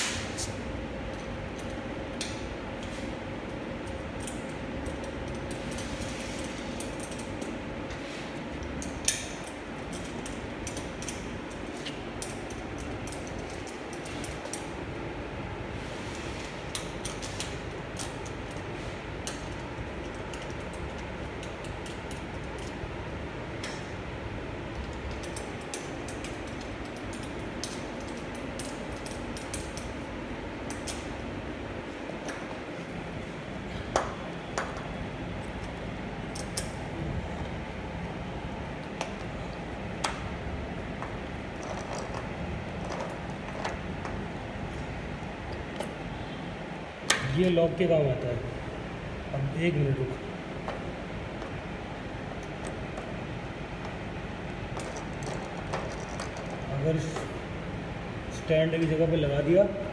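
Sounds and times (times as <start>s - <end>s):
steady background hiss: 0.0s - 59.9s
steady background hum: 0.0s - 59.9s.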